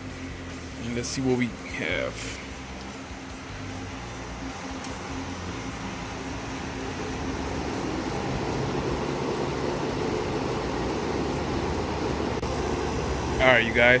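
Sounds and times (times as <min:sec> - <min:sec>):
air conditioner compressor and fan: 0:00.0 - 0:14.0.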